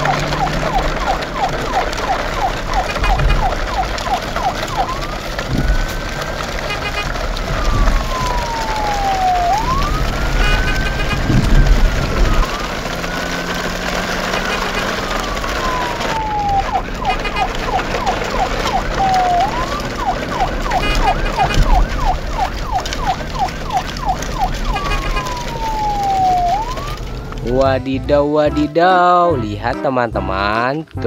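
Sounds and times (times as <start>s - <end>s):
electronic siren wailing and yelping: 0.0s - 5.8s, 6.8s - 27.4s.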